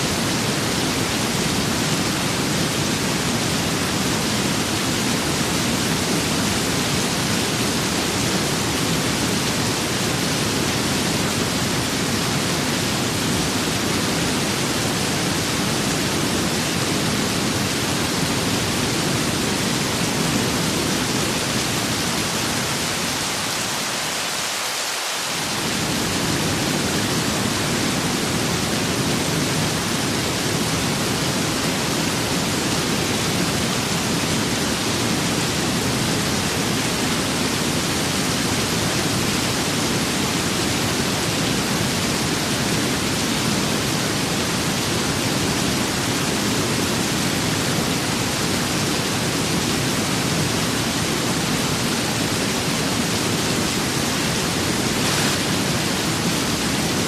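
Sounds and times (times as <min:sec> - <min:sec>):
steady rain with wind: 0:00.0 - 0:57.0.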